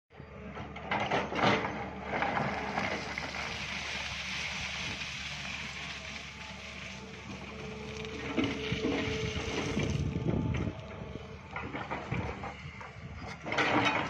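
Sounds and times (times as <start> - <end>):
excavator diesel engine running: 0.1 - 14.0.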